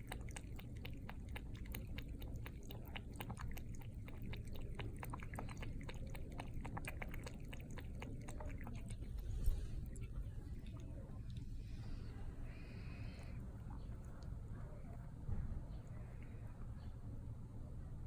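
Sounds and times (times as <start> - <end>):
cat lapping water: 0.0 - 17.9.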